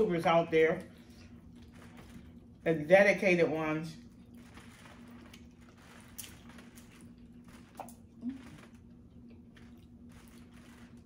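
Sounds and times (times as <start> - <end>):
low hum: 0.0 - 11.0
eating clicks and squishes: 0.6 - 2.7, 4.0 - 11.0.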